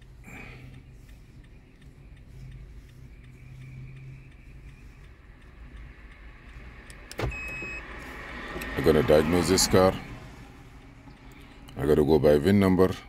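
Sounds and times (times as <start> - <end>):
steady low hum: 0.0 - 12.2
faint regular ticking: 0.0 - 13.0.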